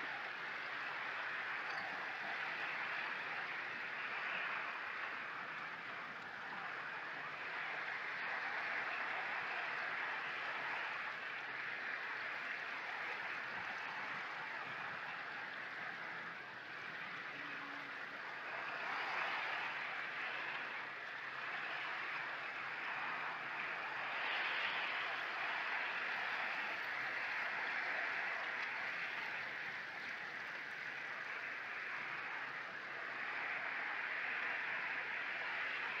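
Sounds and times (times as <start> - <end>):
waves washing onto shingle: 0.0 - 36.0.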